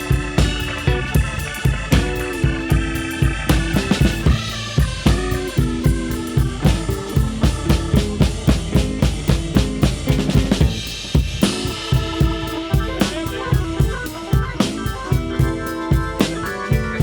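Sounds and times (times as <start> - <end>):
bass drum and snare beat: 0.0 - 17.0
blues band playing: 0.0 - 17.0.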